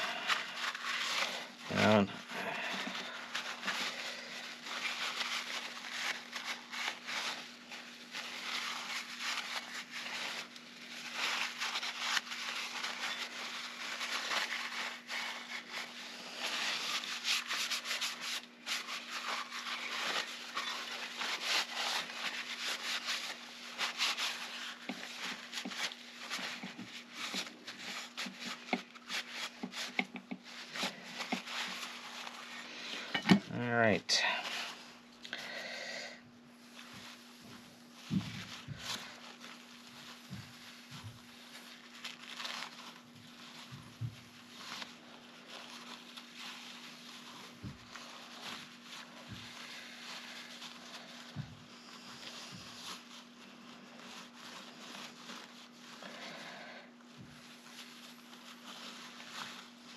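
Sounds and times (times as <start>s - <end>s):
paper towel scrubbing metal: 0.0s - 35.5s, 36.5s - 59.9s.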